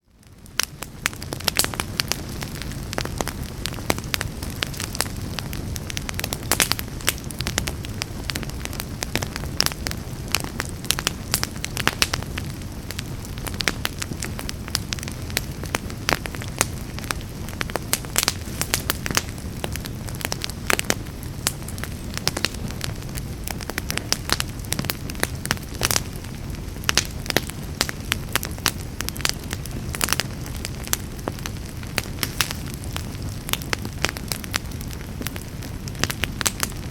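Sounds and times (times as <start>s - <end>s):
fire crackling and popping: 0.0s - 36.9s
fire rumbling: 0.0s - 36.9s.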